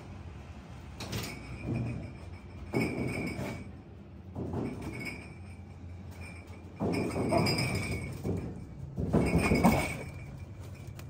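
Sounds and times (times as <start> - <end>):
bottles clinking and rustling: 1.0 - 11.0.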